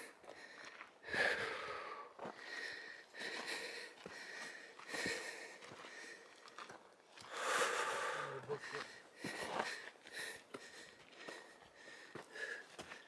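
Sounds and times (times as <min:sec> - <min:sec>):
person breathing hard: 0:00.0 - 0:06.3, 0:07.3 - 0:13.0.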